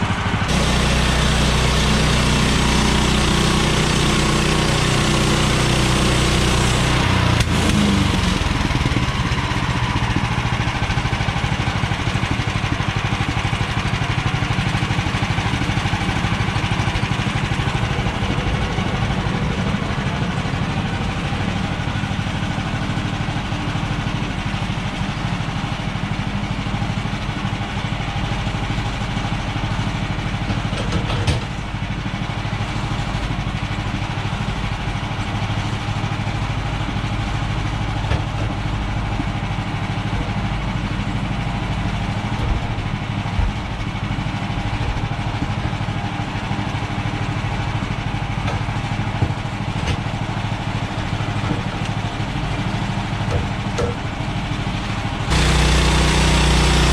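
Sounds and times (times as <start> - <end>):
sawmill gas engine running: 0.0 - 56.9.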